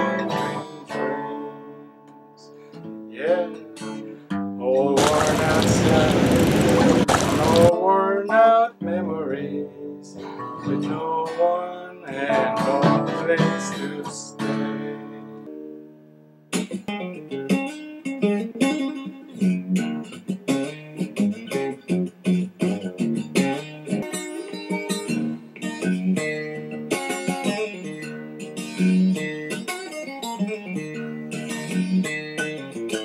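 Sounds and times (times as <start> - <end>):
rhythmic guitar strumming: 0.0 - 33.0
slow acoustic guitar melody: 0.0 - 33.0.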